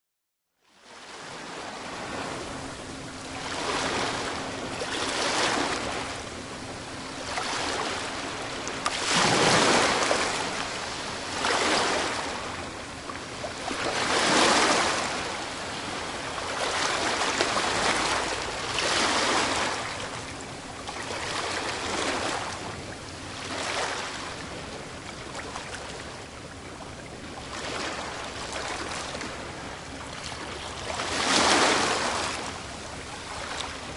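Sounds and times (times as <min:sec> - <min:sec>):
ocean waves breaking: 0:00.8 - 0:33.9.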